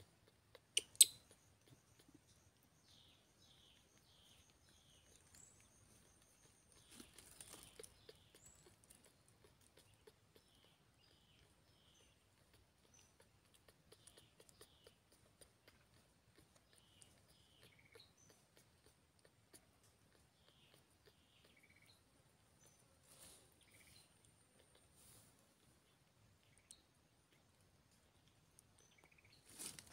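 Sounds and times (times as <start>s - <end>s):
soft high chirps: 0.0s - 27.5s
forest ambience: 0.0s - 29.9s.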